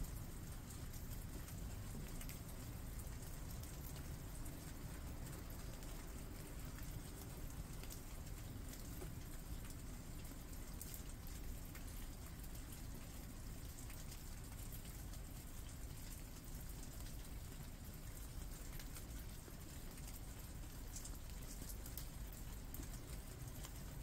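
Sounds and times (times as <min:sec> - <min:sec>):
rain on leafy foliage: 0:00.0 - 0:24.0.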